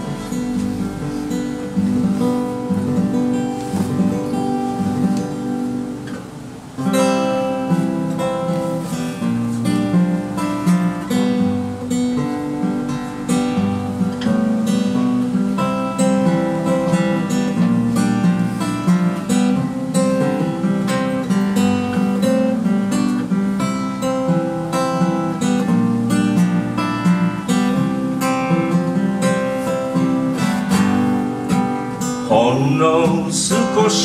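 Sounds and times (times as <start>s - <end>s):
acoustic guitar playing: 0.0s - 34.0s.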